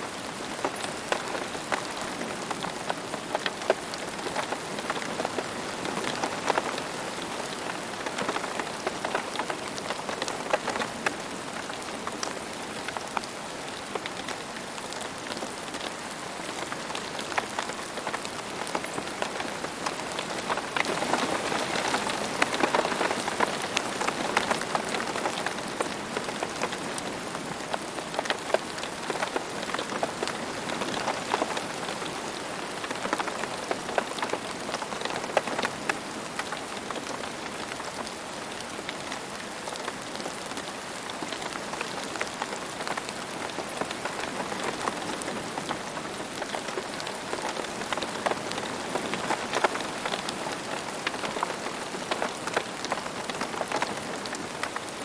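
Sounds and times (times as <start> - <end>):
rain on hard surface: 0.0 - 55.0.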